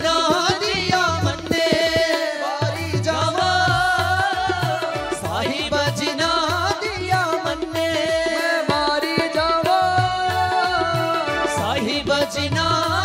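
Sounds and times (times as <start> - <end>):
harmonium: 0.0 - 13.0
people singing: 0.0 - 13.0.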